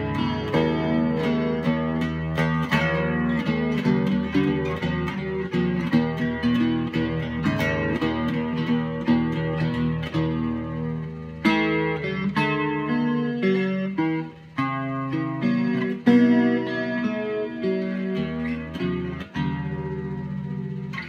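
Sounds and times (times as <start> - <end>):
solo guitar picking a melody: 0.0 - 21.0.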